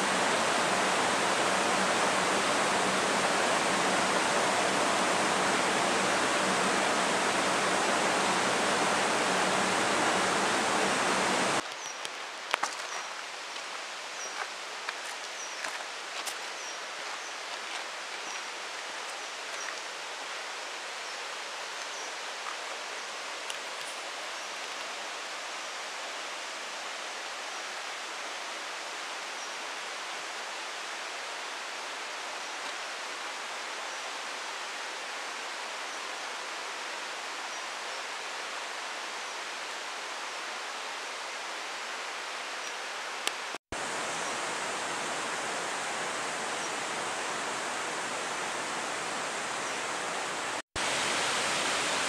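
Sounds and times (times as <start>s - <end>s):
steady rushing forest noise: 0.0s - 52.0s.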